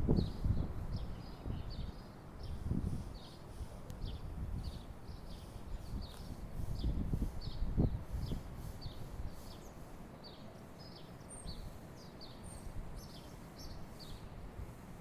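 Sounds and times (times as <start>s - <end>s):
small birds chirping: 0.2s - 14.4s.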